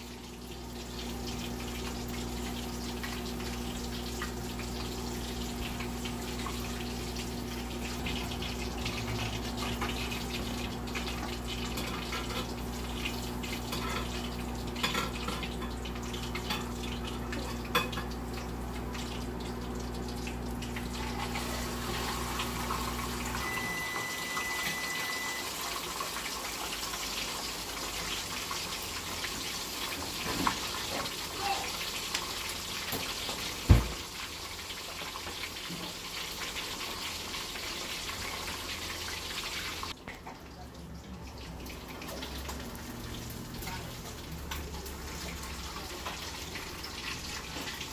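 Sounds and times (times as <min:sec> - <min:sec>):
fish sizzling in hot oil: 0:00.0 - 0:40.2, 0:41.0 - 0:47.9.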